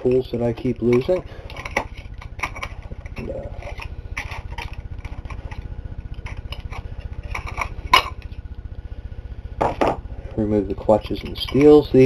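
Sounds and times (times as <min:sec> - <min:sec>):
low pulsing machine rumble: 0:00.0 - 0:12.0.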